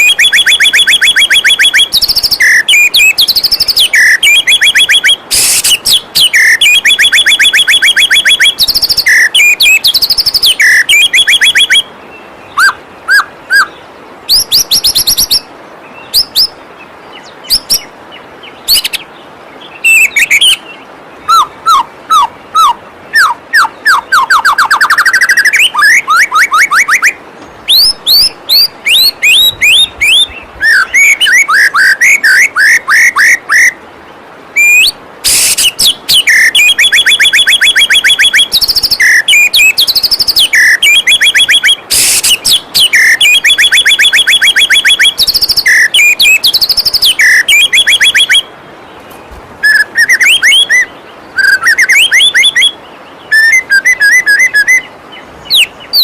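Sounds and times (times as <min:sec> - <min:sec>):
bird singing whistled notes: 0:00.0 - 0:33.8, 0:34.6 - 0:56.0
flowing water rushing: 0:00.0 - 0:56.0.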